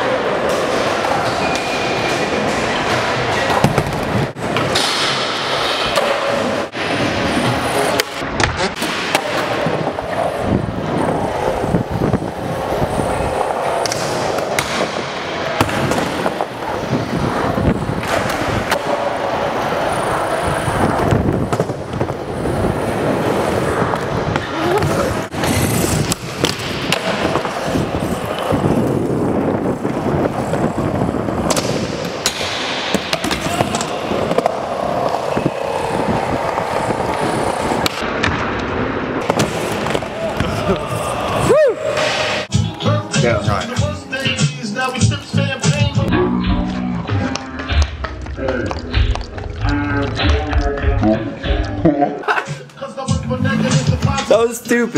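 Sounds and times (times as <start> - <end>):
skateboard wheels rolling on concrete: 0.0 - 46.1.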